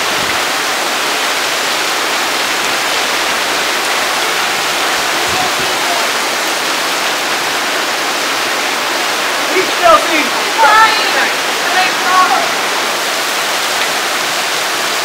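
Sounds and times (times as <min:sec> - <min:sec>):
heavy rain on metal roof: 0:00.0 - 0:15.0.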